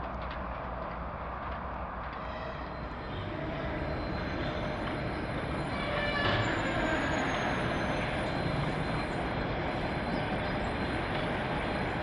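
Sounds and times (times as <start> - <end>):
monorail train rumbling: 0.0 - 12.0
train whine of steady tones: 0.0 - 12.0.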